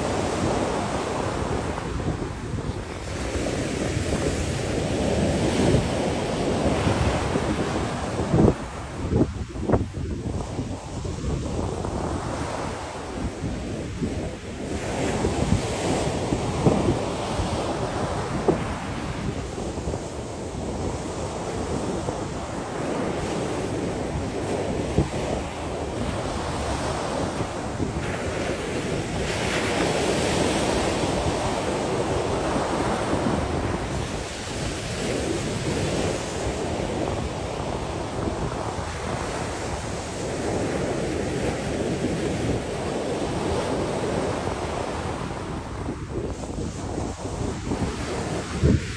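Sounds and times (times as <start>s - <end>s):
sea waves breaking on shore: 0.0s - 48.9s
wind buffeting microphone: 0.0s - 48.9s.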